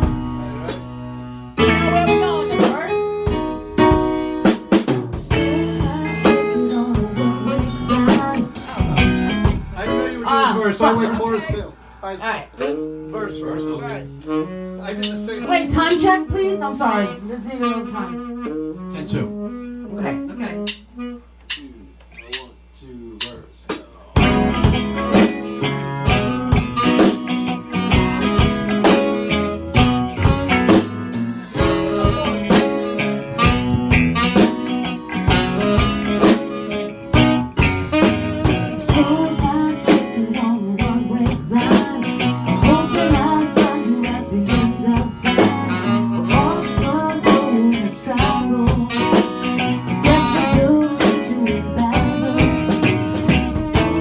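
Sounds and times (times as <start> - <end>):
live blues-rock band playing: 0.0 - 11.0, 14.2 - 21.2, 24.2 - 54.0
drum-kit beat: 0.0 - 11.8, 14.5 - 16.5, 20.5 - 54.0.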